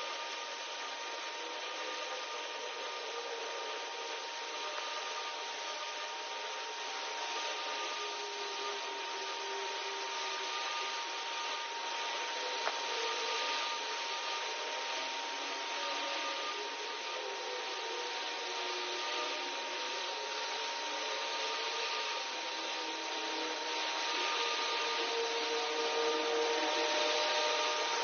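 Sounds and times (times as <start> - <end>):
laser cleaning machine hissing: 0.0 - 28.0.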